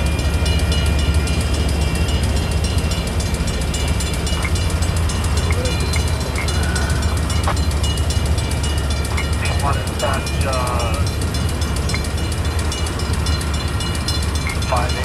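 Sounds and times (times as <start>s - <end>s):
crossing bell ringing: 0.0s - 15.0s
train wheels rumbling and clattering: 0.0s - 15.0s.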